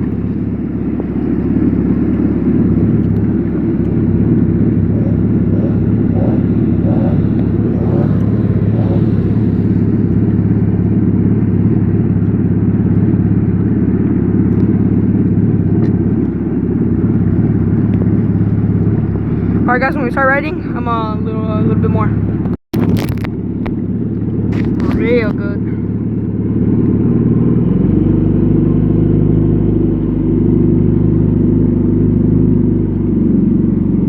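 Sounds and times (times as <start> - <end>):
jet ski engine idling: 0.0 - 34.0.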